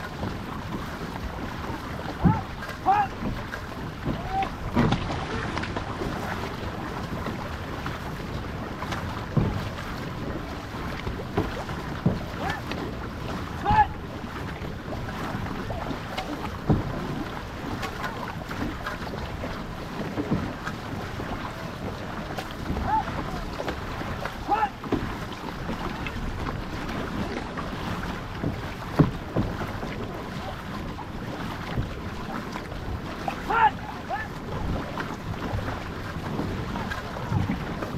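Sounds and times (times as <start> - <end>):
paddle splashes: 0.0 - 37.9
water rushing along canoe hull: 0.0 - 37.9
wind on microphone: 0.0 - 37.9.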